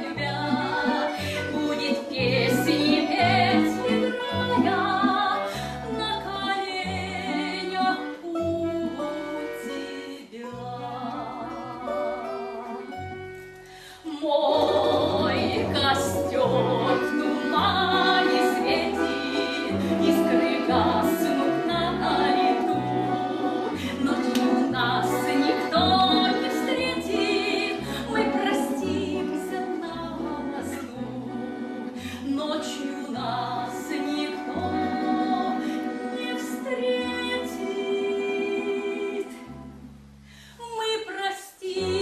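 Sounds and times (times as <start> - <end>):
woman singing with vibrato: 0.0 - 13.1, 13.8 - 39.7, 40.5 - 42.0
instrumental accompaniment: 0.0 - 40.5.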